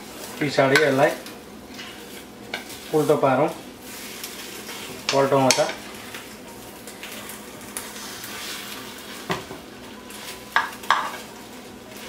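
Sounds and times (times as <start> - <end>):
egg and bread sizzling in a pan: 0.0 - 12.0.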